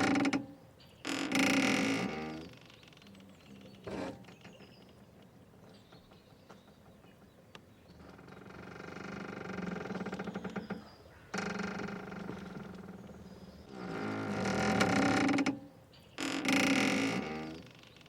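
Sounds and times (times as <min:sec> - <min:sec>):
rope creaking under strain: 0:00.0 - 0:05.0, 0:08.0 - 0:18.0.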